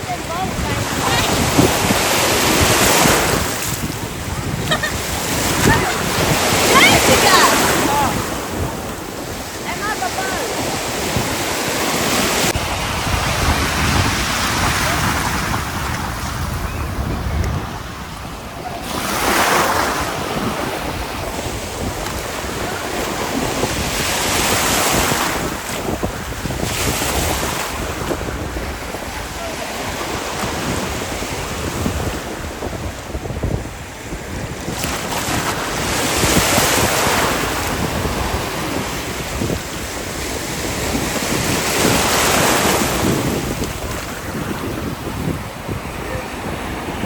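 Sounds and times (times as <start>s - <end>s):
sea waves washing in: 0.0s - 47.0s
wind rumbling on microphone: 0.0s - 47.0s.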